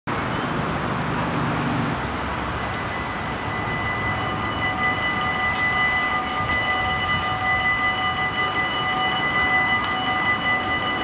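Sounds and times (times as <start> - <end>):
level crossing warning bells: 0.1 - 11.0
steady outdoor rush: 0.1 - 11.0.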